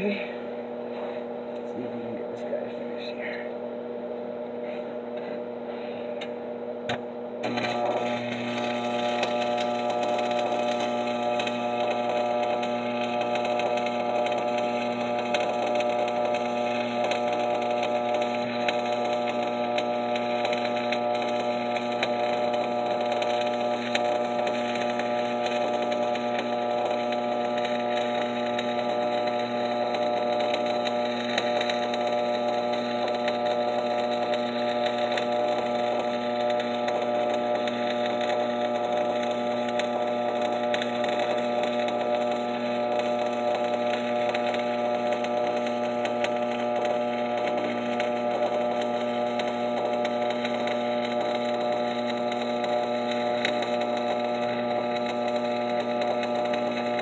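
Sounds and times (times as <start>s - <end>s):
welding arc crackling: 0.0s - 3.5s, 4.1s - 57.0s
electric buzz: 0.0s - 57.0s.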